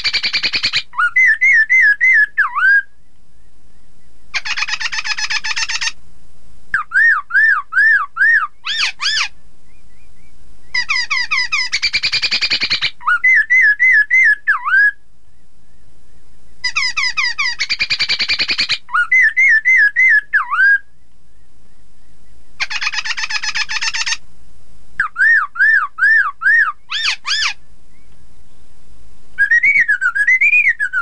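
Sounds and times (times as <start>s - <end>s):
bird chatter: 0.0s - 6.0s, 7.8s - 14.4s, 15.3s - 24.2s, 25.0s - 28.5s
bird singing whistled notes: 0.0s - 6.0s, 6.8s - 24.2s, 25.0s - 28.4s, 29.4s - 31.0s.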